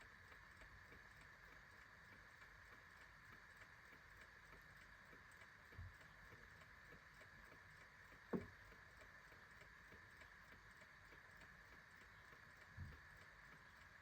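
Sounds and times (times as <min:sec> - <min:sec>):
clock ticking: 0:00.1 - 0:14.0.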